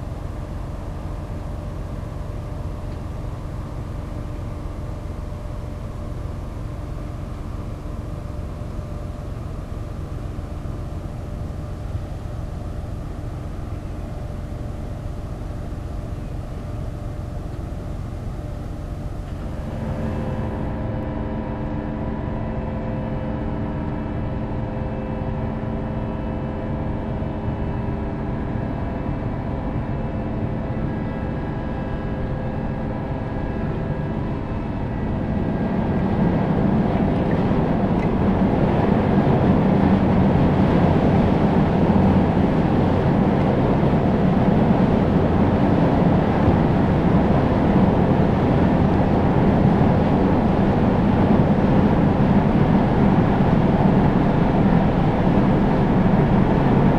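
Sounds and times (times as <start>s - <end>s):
ship engines droning: 0.0s - 56.9s.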